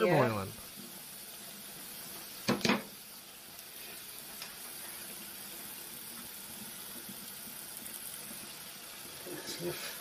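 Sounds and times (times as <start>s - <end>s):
pasta boiling in saucepan: 0.0s - 10.0s.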